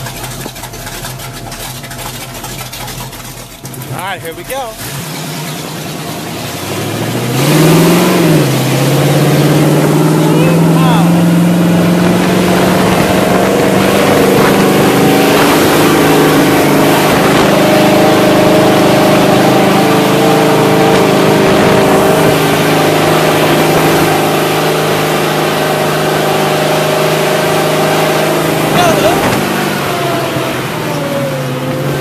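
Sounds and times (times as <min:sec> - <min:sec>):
constant rushing noise: 0:00.0 - 0:07.1, 0:09.0 - 0:31.4
truck engine running under load: 0:00.0 - 0:32.0.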